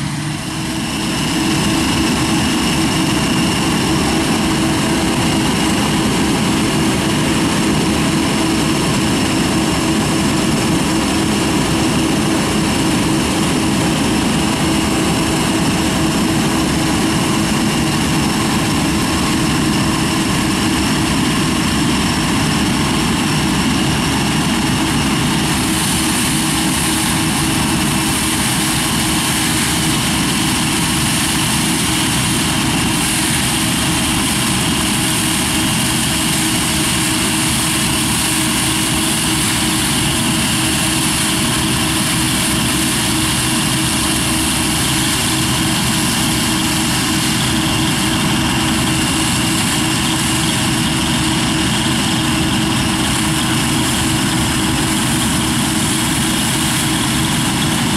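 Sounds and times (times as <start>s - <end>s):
combine harvester engine drone: 0.0s - 57.9s
machinery whine: 0.0s - 57.9s.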